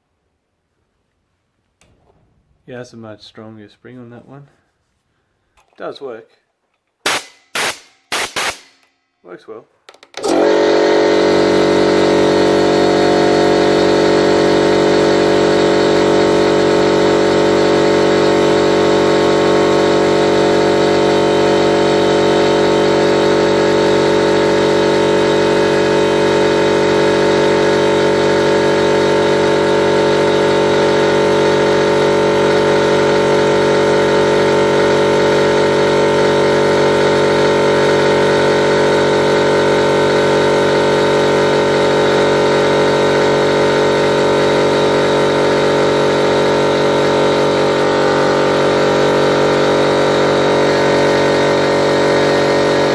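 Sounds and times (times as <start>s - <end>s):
air compressor running: 7.0s - 8.8s, 10.2s - 52.9s.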